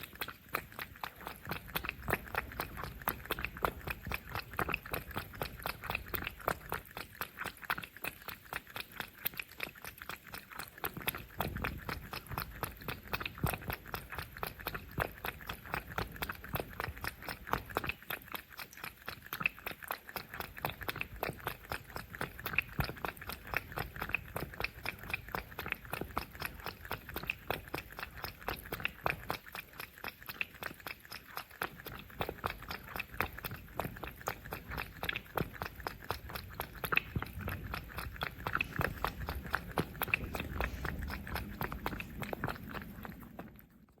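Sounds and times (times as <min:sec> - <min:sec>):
cats crunching food: 0:00.0 - 0:44.0.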